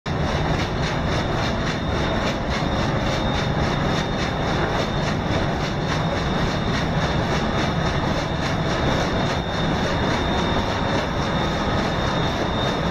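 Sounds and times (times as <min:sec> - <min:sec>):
diesel engine pulsing: 0:00.1 - 0:12.9.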